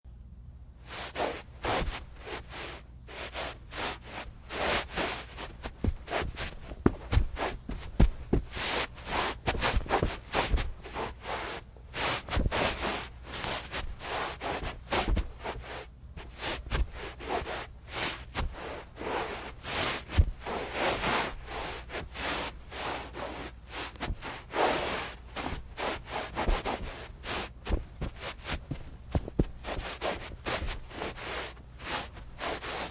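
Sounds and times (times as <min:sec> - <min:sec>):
light low footstep thuds: 0:00.8 - 0:32.9
shoes scuffing on carpet: 0:00.8 - 0:32.9.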